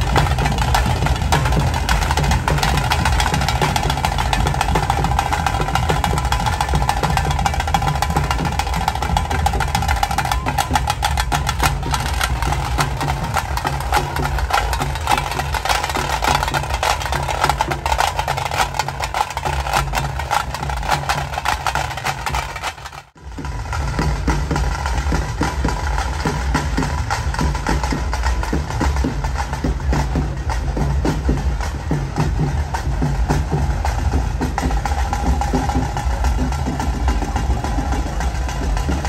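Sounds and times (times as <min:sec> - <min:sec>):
drums beating fast rhythm: 0:00.0 - 0:39.0.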